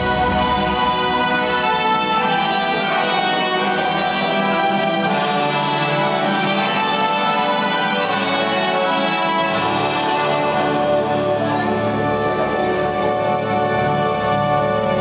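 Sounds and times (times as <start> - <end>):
orchestral show music: 0.0 - 15.0.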